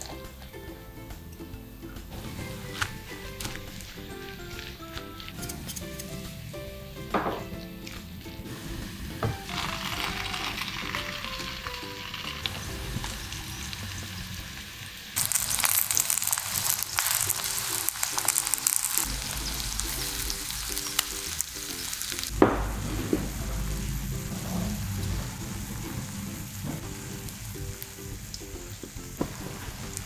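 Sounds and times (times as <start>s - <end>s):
batter sizzling in hot oil: 2.1s - 30.0s.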